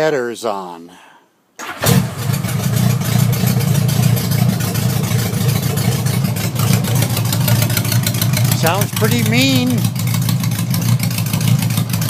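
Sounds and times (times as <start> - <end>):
motorcycle engine running: 2.1 - 12.0.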